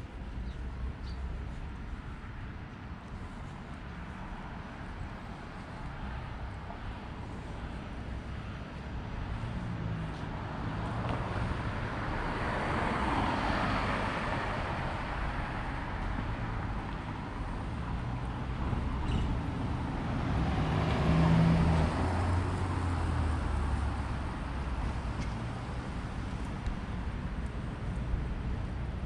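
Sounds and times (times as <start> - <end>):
vehicles passing on road: 0.0 - 29.0.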